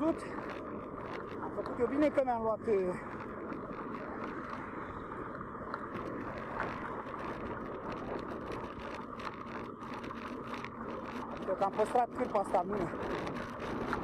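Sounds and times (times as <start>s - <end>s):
faint ticks: 0.0s - 14.0s.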